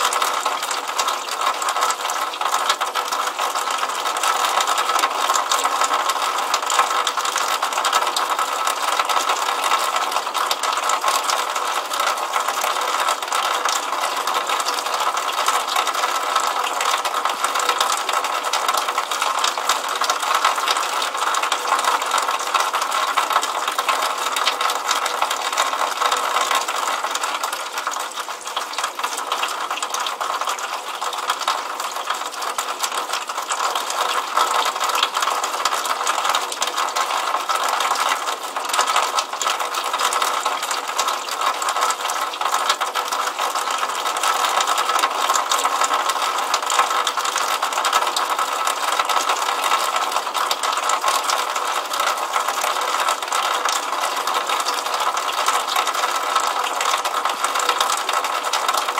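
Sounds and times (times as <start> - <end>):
water splashing onto pavement: 0.0 - 58.9.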